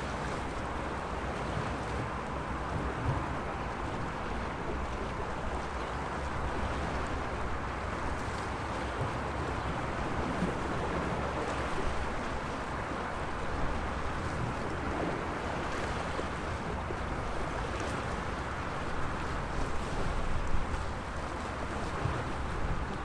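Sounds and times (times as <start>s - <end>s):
sea waves washing ashore: 0.0s - 23.0s
wind rumble on microphone: 0.0s - 23.0s.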